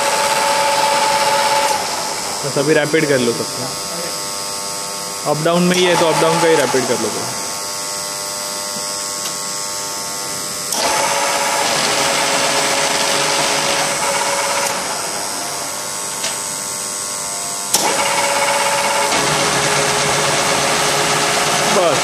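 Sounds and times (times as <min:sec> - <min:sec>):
milling machine running: 0:00.0 - 0:09.2, 0:09.9 - 0:22.0.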